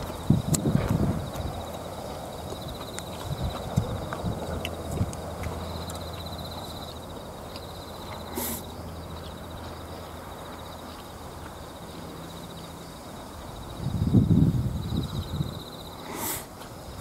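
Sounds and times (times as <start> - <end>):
low hum of wind: 0.0 - 17.0
pulsing insect trill: 0.0 - 17.0.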